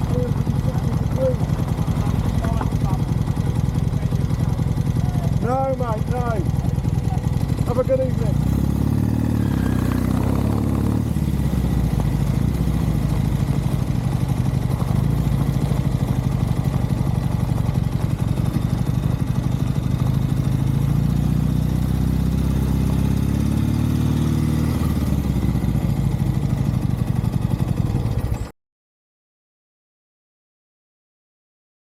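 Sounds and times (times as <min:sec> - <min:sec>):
motorcycle engine running: 0:00.0 - 0:28.5.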